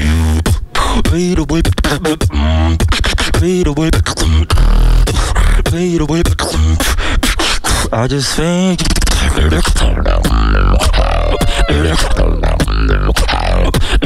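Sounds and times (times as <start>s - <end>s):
person beatboxing: 0.0s - 14.0s.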